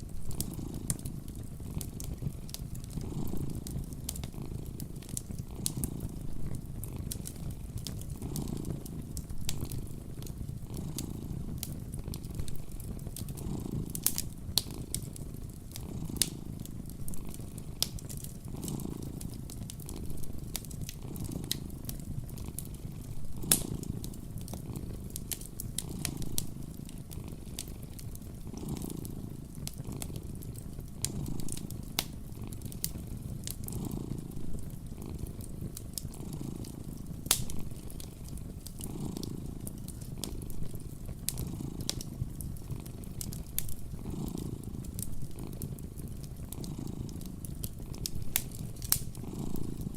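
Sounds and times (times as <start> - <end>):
cat purring: 0.0 - 49.9
wood fire crackling and popping: 0.0 - 49.9.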